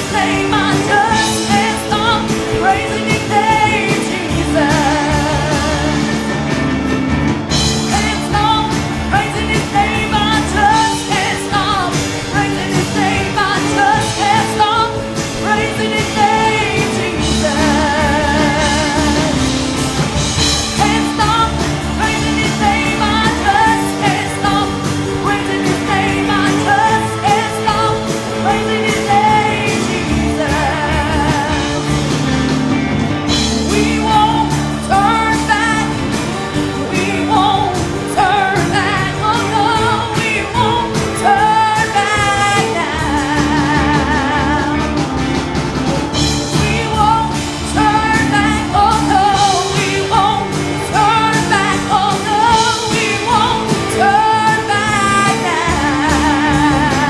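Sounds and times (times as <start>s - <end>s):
band playing held chords: 0.0s - 57.0s
lead singer with vibrato: 0.0s - 57.0s
steady drumbeat: 0.0s - 57.0s.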